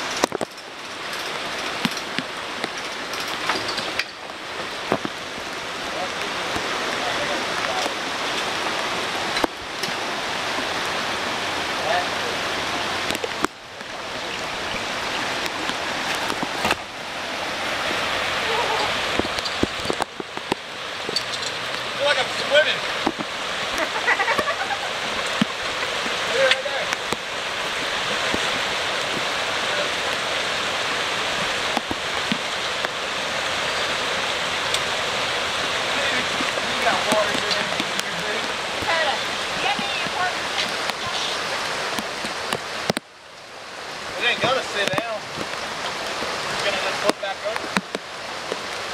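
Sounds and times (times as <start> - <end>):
rushing creek: 0.0 - 48.9.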